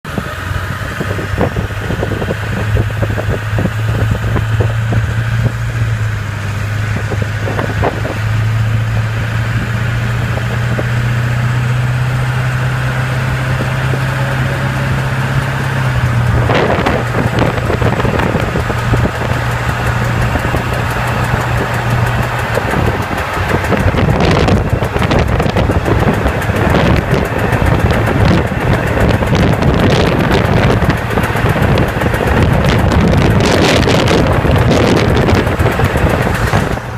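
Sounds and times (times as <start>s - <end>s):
road and wind noise: 0.0s - 36.9s
truck engine low drone: 0.0s - 36.9s.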